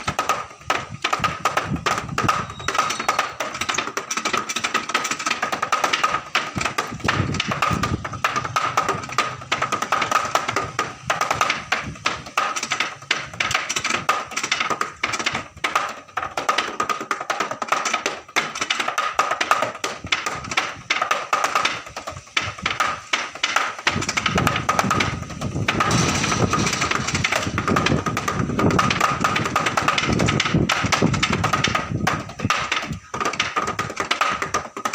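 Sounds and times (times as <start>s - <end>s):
drumsticks on practice pad: 0.0s - 34.9s.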